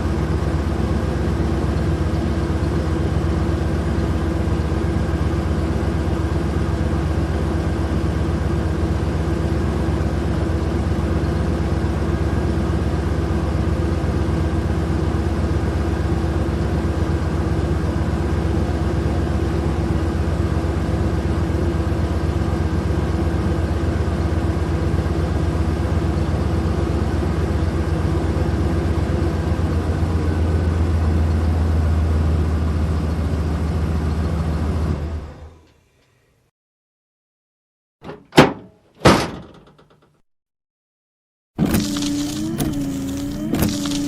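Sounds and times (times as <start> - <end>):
vehicle engine rumbling: 0.0 - 35.7, 41.6 - 44.0
engine whine: 0.0 - 35.8, 41.6 - 44.0.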